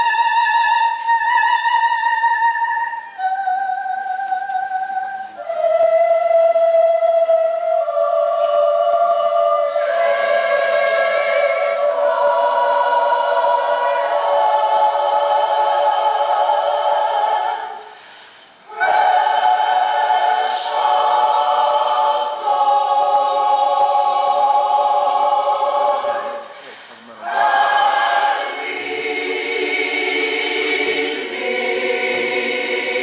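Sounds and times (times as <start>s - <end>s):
mixed choir singing held chords: 0.0s - 33.0s.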